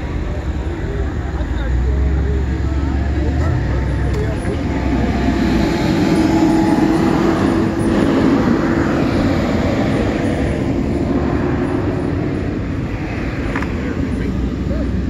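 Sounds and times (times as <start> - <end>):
car engine rumbling: 0.0 - 15.0
engine hum: 0.0 - 15.0.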